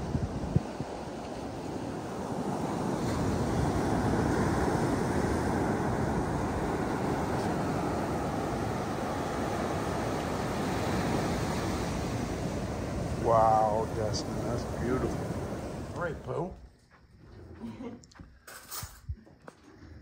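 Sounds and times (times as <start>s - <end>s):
ocean waves breaking on beach: 0.0s - 16.6s.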